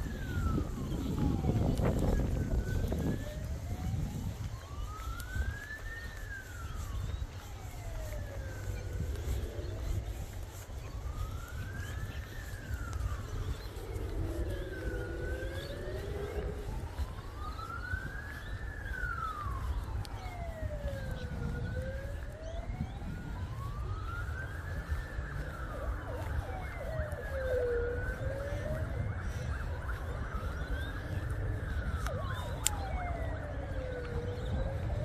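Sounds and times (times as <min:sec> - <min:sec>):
emergency siren wailing: 0:00.0 - 0:35.0.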